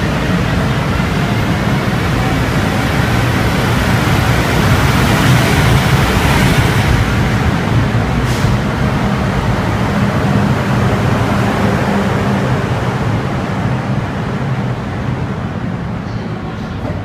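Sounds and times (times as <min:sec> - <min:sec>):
electric locomotive rumble and hum: 0:00.0 - 0:17.0.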